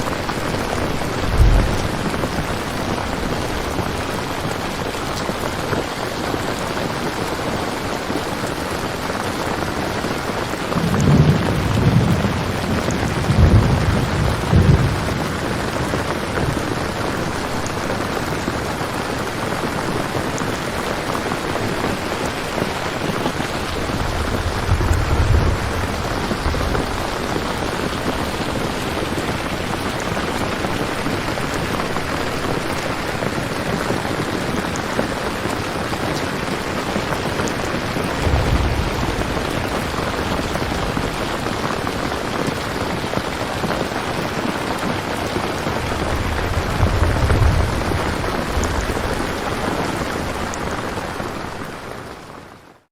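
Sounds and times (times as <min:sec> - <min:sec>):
low thunder rumbling: 0:00.0 - 0:05.8, 0:09.9 - 0:51.7
heavy rain: 0:00.0 - 0:52.9.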